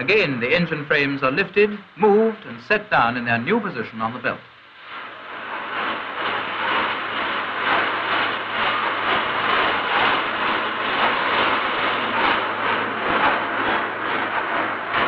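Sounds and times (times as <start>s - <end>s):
pulsing machinery noise: 0.0s - 15.0s.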